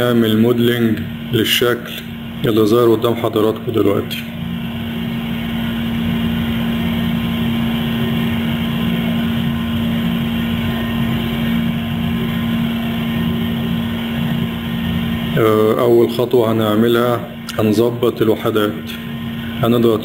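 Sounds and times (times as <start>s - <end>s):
mechanical drone: 0.0s - 20.0s.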